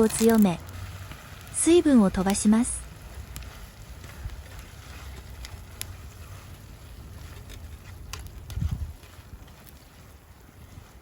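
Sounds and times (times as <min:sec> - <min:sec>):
wood fire popping: 0:00.0 - 0:11.0
wind rumbling on microphone: 0:02.1 - 0:11.0.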